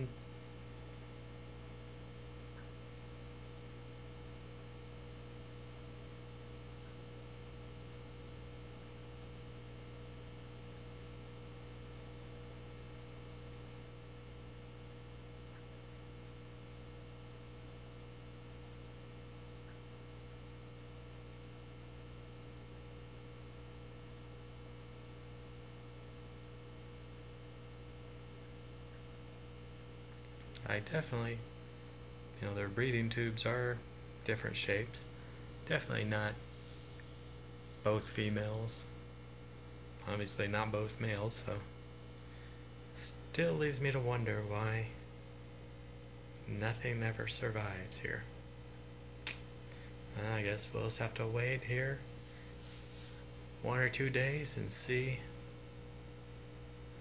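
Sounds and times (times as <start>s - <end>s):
faint high whine: 0.0s - 57.0s
low electrical hum: 0.0s - 57.0s.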